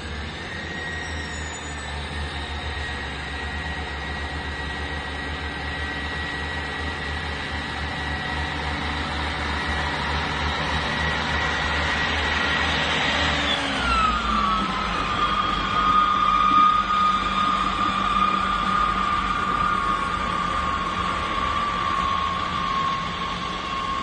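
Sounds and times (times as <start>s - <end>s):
diesel train engines throbbing: 0.0s - 24.0s
train high whine: 0.0s - 24.0s.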